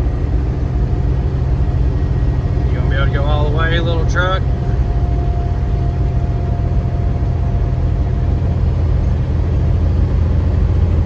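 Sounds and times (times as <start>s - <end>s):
diesel truck engine under load: 0.0s - 11.0s
faint steady whine: 0.0s - 11.0s.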